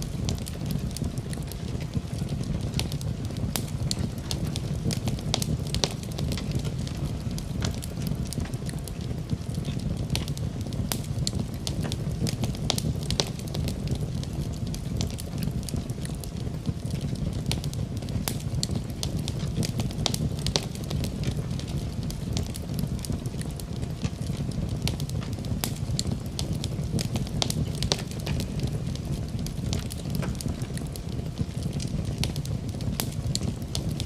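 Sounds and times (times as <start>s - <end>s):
fire crackling and popping: 0.0s - 34.0s
fire roaring: 0.0s - 34.0s.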